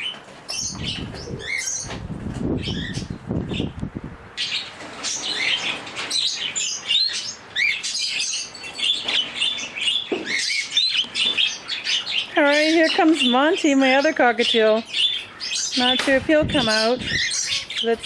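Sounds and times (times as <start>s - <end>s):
parrots chirping and calling: 0.0s - 18.0s.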